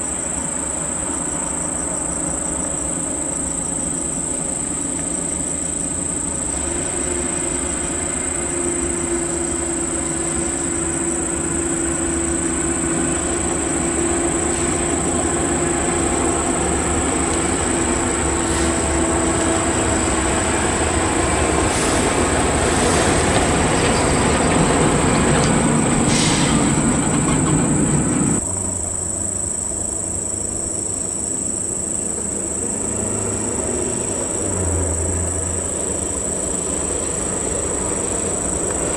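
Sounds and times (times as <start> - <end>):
distant vehicle noise: 0.0 - 38.9
high insect drone: 0.0 - 38.9
truck driving on gravel: 4.2 - 28.7, 31.8 - 38.9.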